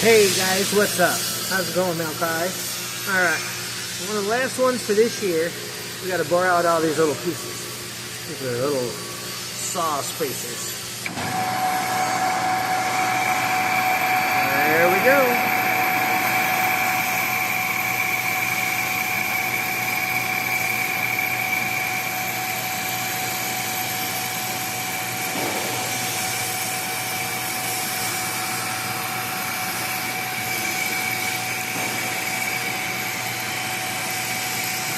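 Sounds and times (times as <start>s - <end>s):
metal lathe whining: 0.0s - 34.9s.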